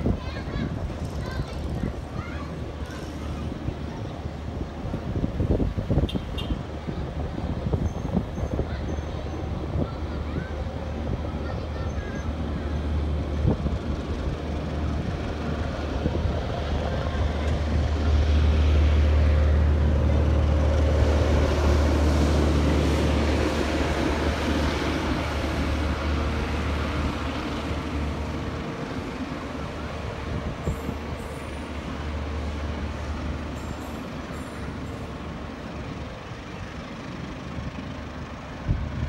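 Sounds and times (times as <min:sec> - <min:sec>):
train coaches rumbling on rails: 0:00.0 - 0:39.0.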